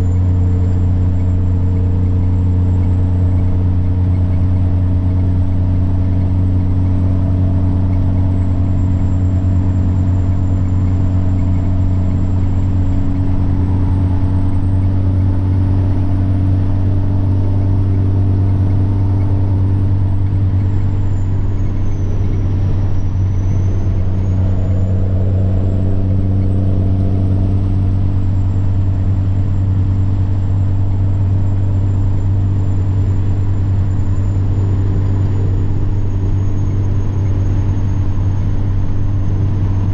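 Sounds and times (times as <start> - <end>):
diesel engine humming: 0.0 - 39.9
turbocharger whine: 0.0 - 39.9.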